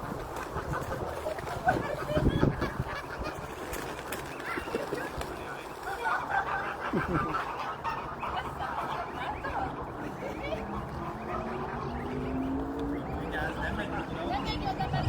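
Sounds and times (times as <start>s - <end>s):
geese calling: 0.5s - 15.0s.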